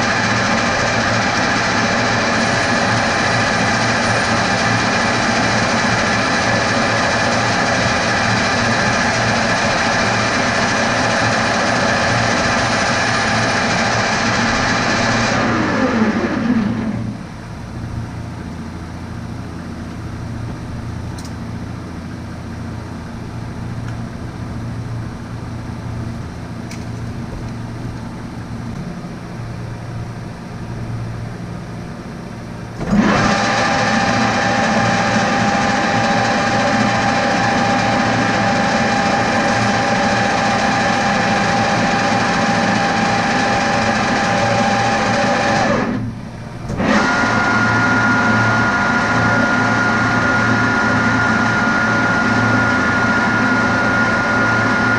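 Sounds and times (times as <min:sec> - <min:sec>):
metal lathe running: 0:00.0 - 0:23.7, 0:32.6 - 0:54.9
low hum: 0:00.0 - 0:54.9.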